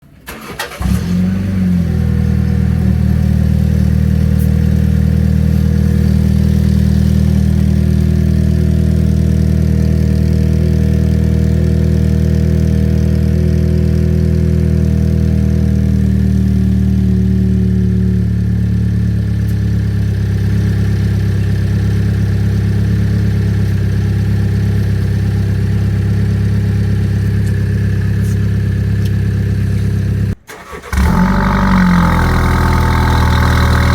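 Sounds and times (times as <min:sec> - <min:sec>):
car engine starting and idling: 0:00.0 - 0:33.9.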